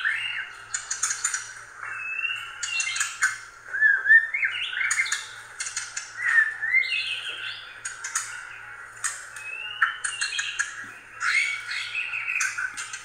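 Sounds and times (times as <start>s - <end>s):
mice squeaking: 0.0s - 13.0s.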